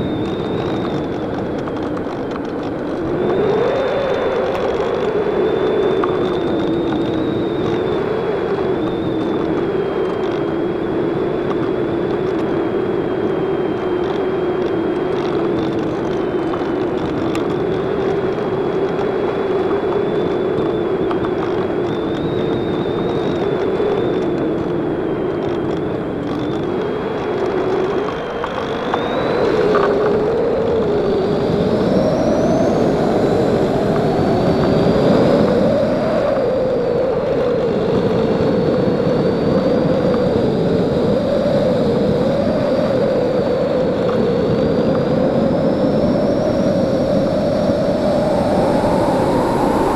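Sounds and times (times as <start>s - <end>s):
electric motor droning whine: 0.0s - 49.9s
wind rushing over microphone: 0.0s - 49.9s.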